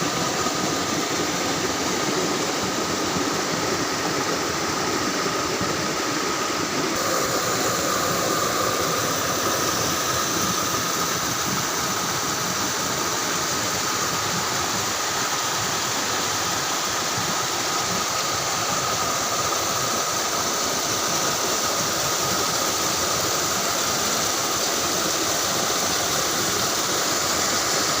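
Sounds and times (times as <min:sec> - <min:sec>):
water rushing over waterfall: 0:00.0 - 0:28.0.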